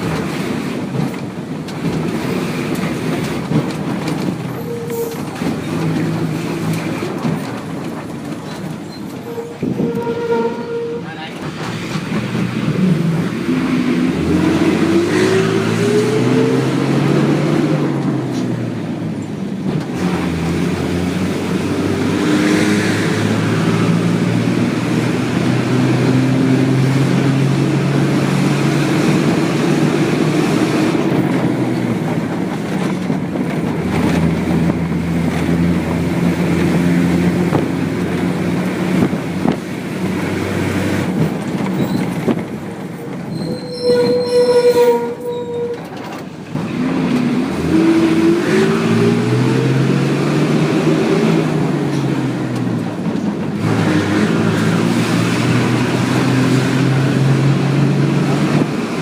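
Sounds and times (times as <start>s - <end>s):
bus engine running: 0.0s - 59.0s
road noise: 0.0s - 59.0s.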